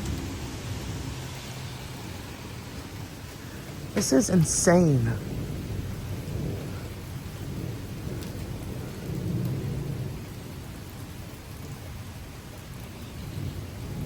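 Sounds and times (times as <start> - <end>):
low thunder rumble: 0.0 - 4.0, 5.1 - 14.0
heavy rain pouring: 0.0 - 14.0.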